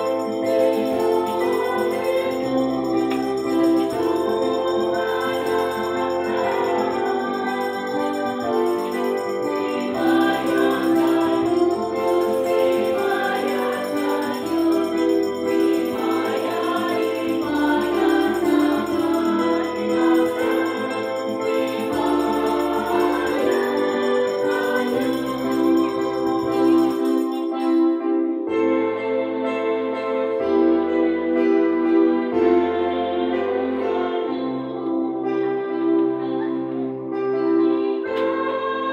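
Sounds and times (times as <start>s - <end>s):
organ-like keyboard chords: 0.0s - 38.9s
voices singing church music: 0.0s - 38.9s.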